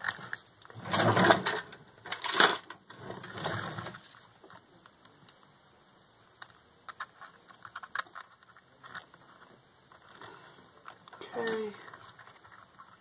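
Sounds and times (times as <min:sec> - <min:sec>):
toy car chassis rattling and knocking: 0:00.0 - 0:04.6, 0:06.4 - 0:13.0.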